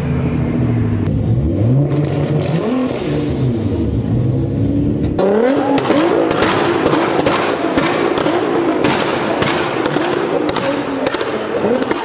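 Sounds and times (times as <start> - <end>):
exhaust crackling and popping: 0.3 - 12.0
car engine settling: 1.9 - 12.0.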